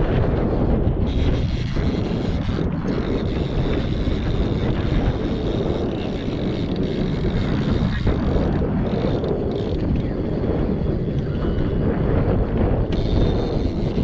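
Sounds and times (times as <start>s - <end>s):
outboard motor running: 0.0s - 11.7s, 12.6s - 14.0s
wind rumbling on microphone: 0.0s - 14.0s.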